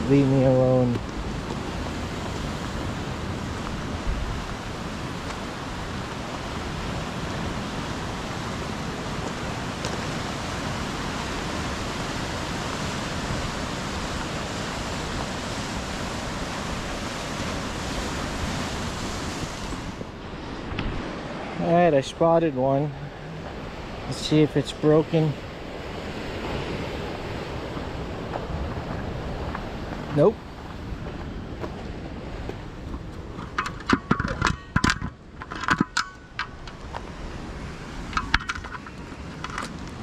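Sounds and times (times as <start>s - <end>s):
ocean surf: 0.0s - 40.0s
wind: 0.0s - 40.0s.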